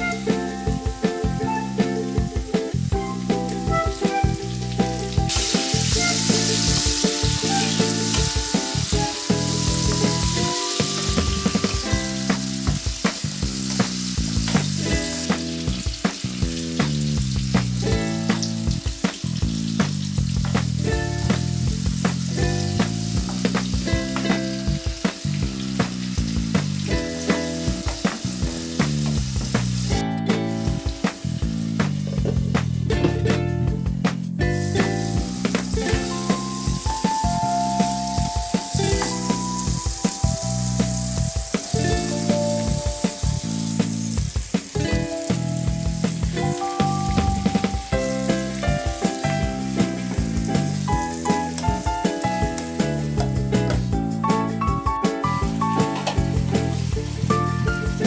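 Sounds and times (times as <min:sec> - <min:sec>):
background music: 0:00.0 - 0:58.0
vegetables sizzling in hot oil: 0:00.0 - 0:58.0.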